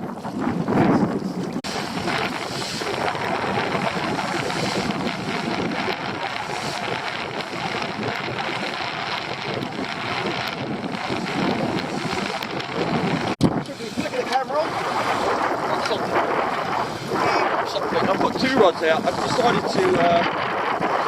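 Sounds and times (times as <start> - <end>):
rush of wind and water: 0.0 - 21.0
wind buffeting microphone: 0.0 - 21.0.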